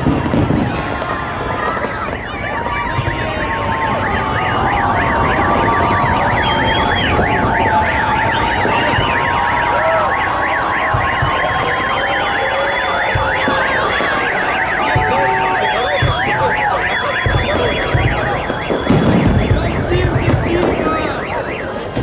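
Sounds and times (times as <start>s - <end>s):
low firework thumps: 0.0s - 12.4s, 13.0s - 21.2s
car alarm warbling: 1.8s - 22.0s.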